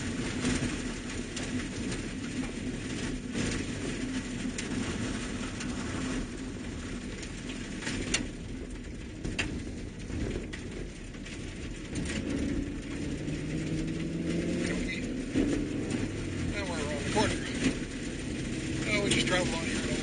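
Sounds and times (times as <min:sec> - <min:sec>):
vehicle engine and tyre rumble: 0:00.0 - 0:20.0
sharp knocks and rattles: 0:00.1 - 0:18.9.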